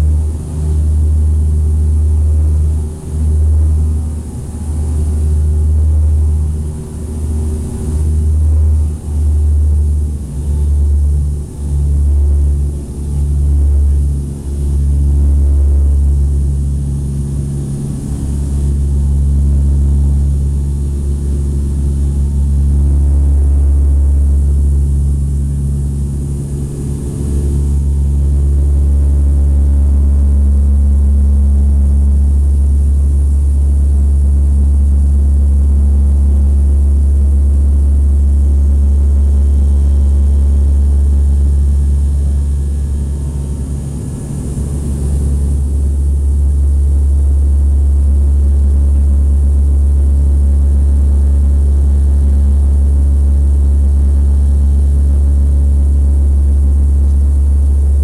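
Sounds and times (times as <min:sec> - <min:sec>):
airliner propeller and engine drone: 0:00.0 - 0:58.0.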